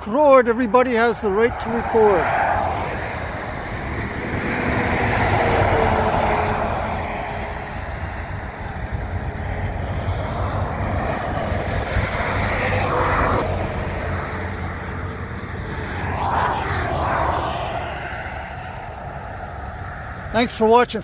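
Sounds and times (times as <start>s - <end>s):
highway traffic passing: 0.0s - 21.0s.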